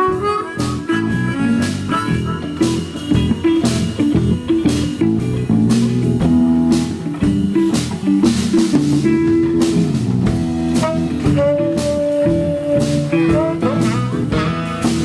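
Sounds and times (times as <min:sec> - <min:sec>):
bass: 0:00.0 - 0:15.0
drum kit with cymbal hits: 0:00.0 - 0:15.0
guitar lines: 0:00.0 - 0:15.0.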